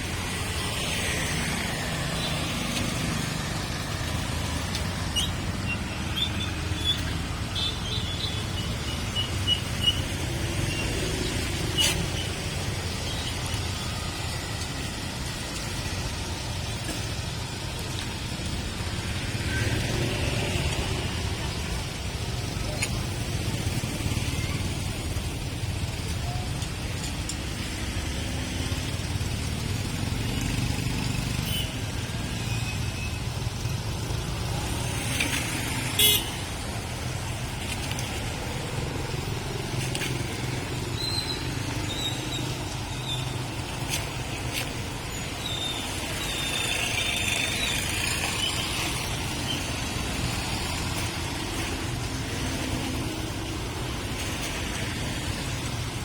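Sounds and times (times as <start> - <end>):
motorbikes and cars passing: 0.0 - 56.0.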